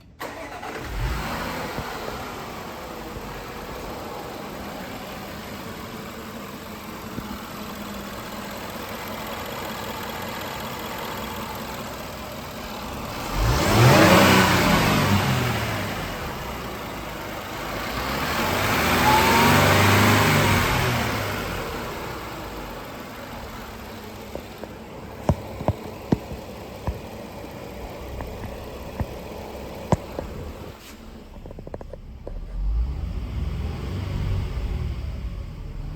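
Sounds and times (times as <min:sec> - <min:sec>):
car engine starting and revving: 0:00.0 - 0:35.9.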